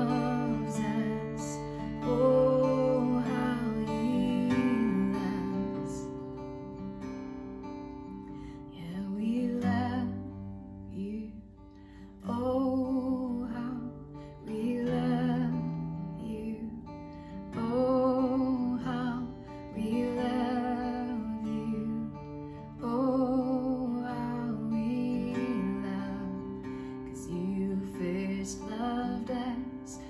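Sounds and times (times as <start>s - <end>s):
woman singing with vibrato: 0.0s - 6.2s, 8.7s - 11.5s, 12.2s - 30.0s
strummed acoustic guitar: 0.0s - 30.0s.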